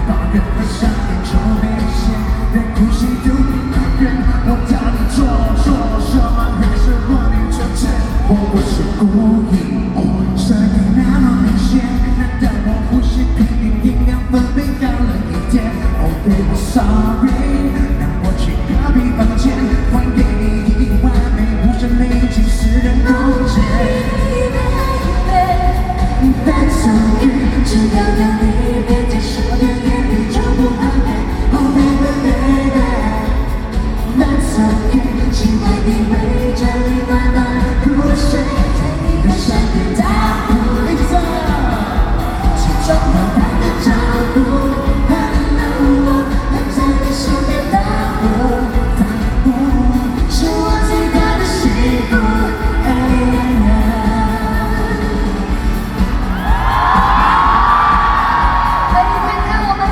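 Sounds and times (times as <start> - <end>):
live pop band music: 0.0 - 59.9
person singing: 0.0 - 59.9
steady bass: 0.0 - 59.9.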